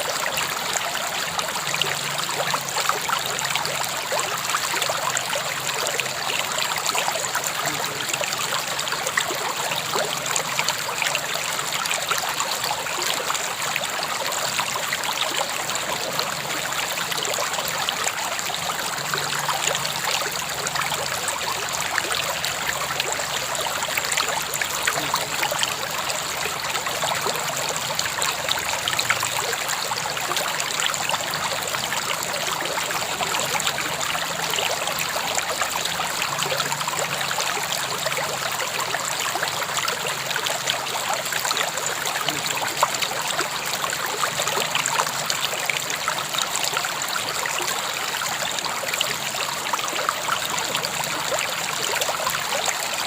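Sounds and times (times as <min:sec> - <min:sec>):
river running over rocks: 0:00.0 - 0:53.0.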